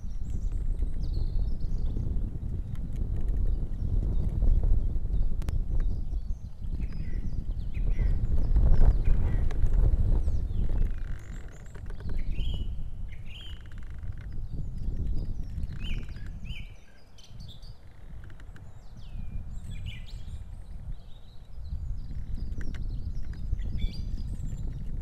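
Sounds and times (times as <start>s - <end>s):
small birds chirping: 0.0s - 25.0s
wind on microphone: 0.0s - 25.0s.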